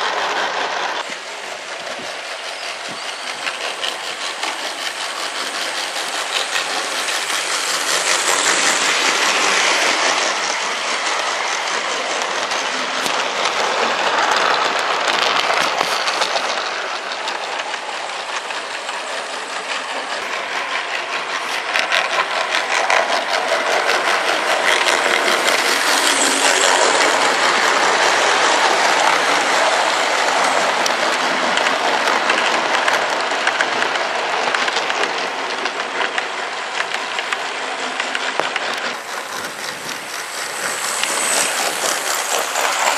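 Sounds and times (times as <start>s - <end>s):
model train wheels clattering: 0.0s - 42.9s.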